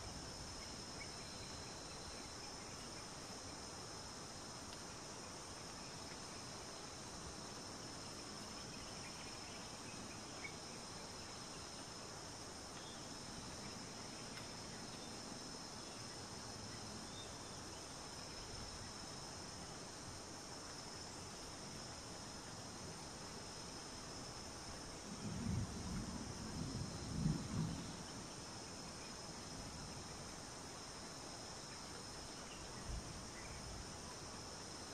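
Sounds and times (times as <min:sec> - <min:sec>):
insect chorus drone: 0:00.0 - 0:34.9
outdoor ambience hiss: 0:00.0 - 0:34.9.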